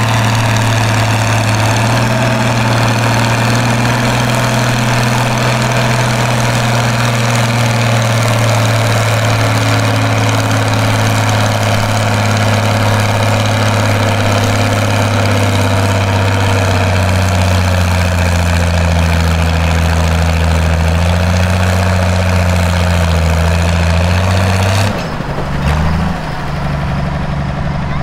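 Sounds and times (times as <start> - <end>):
tractor diesel engine under load: 0.0 - 28.0.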